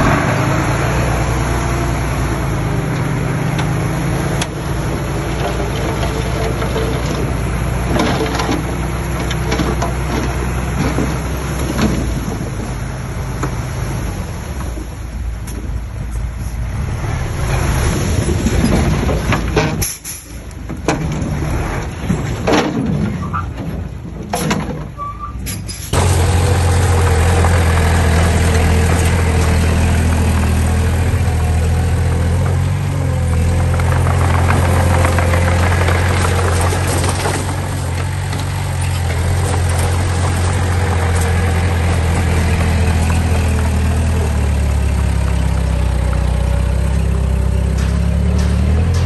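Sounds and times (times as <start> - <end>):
heavy diesel engine running: 0.0 - 22.4, 25.9 - 49.0.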